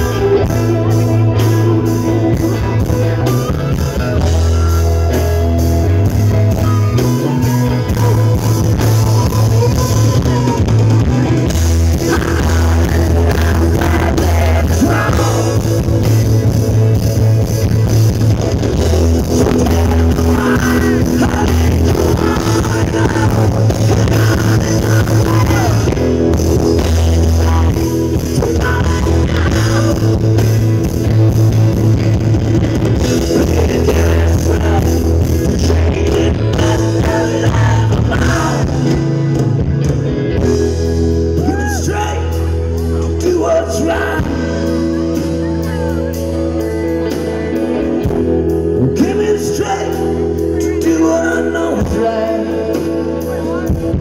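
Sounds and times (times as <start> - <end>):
electric guitar: 0.0 - 54.0
live rock band: 0.0 - 54.0
loud low bass line: 0.0 - 54.0.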